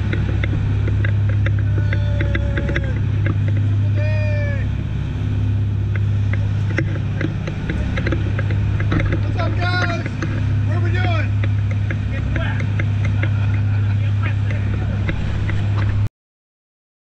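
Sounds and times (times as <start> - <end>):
boat engine drone: 0.0 - 16.1
hull knocking on waves: 0.0 - 16.1
rush of wake and spray: 0.0 - 16.1.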